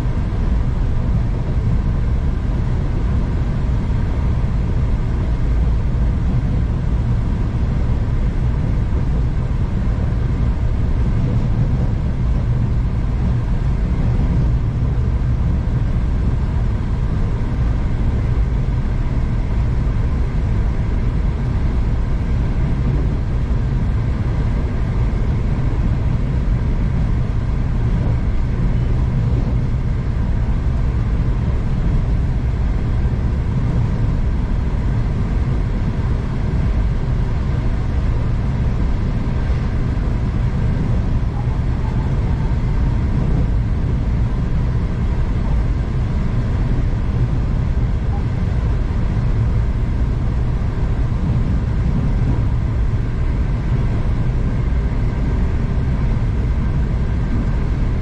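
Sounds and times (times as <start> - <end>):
train rumbling inside carriage: 0.0 - 58.0.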